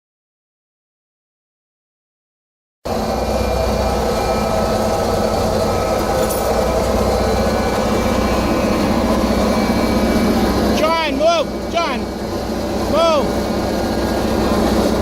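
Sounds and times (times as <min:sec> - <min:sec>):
engine running steadily: 0:02.9 - 0:15.0.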